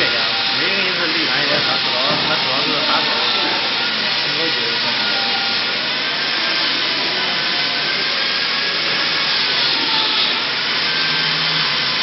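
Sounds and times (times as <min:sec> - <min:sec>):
band saw whirring: 0:00.0 - 0:12.0.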